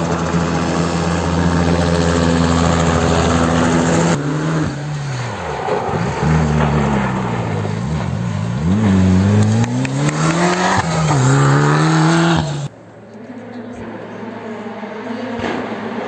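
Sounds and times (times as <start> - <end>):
rally car engine accelerating: 0.0 - 12.7, 14.0 - 16.0.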